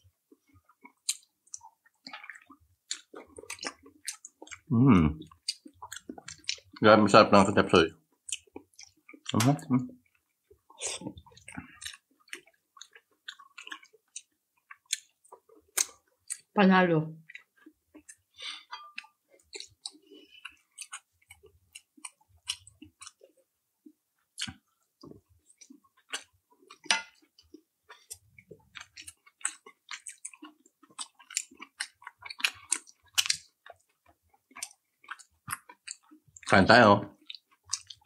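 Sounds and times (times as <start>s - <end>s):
person chewing food: 0.0s - 6.8s, 8.0s - 16.5s, 17.2s - 38.0s.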